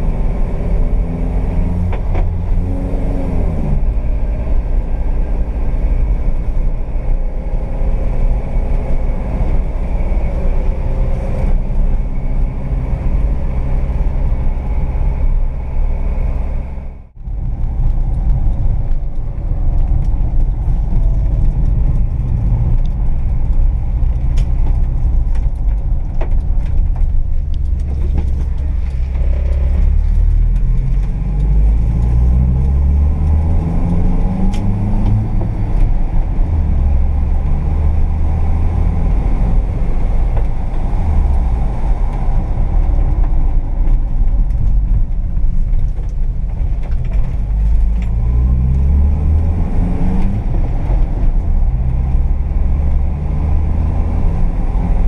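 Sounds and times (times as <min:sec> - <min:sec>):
van engine running: 0:00.0 - 0:55.0.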